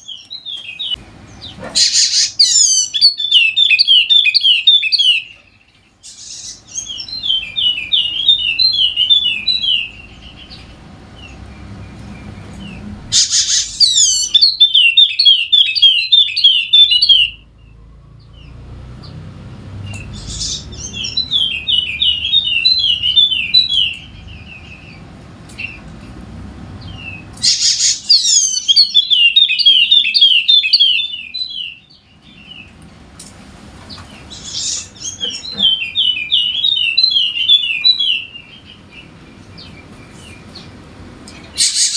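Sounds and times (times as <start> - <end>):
bird twittering song: 0.0 - 25.9, 26.8 - 32.8, 33.9 - 41.9.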